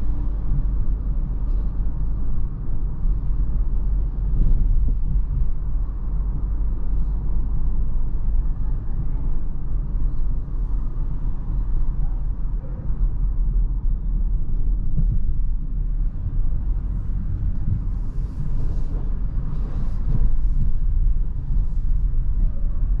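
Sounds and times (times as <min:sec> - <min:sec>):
car engine low rumble: 0:00.0 - 0:23.0
road noise: 0:00.0 - 0:23.0.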